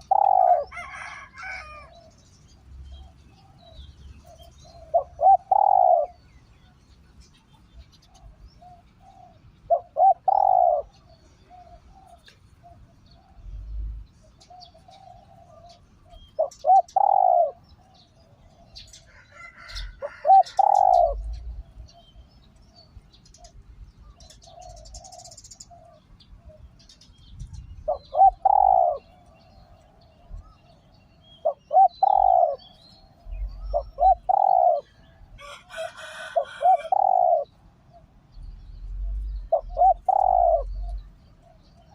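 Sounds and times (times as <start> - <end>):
dove cooing: 0.0 - 2.2, 2.9 - 6.3, 7.7 - 22.3, 23.2 - 41.9.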